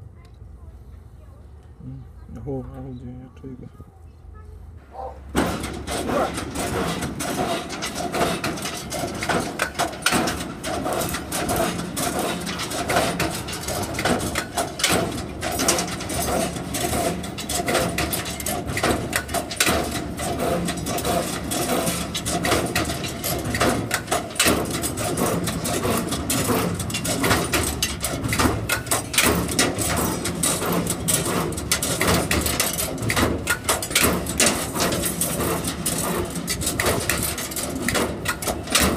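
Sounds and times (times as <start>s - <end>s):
bending machine clattering: 5.2s - 38.9s.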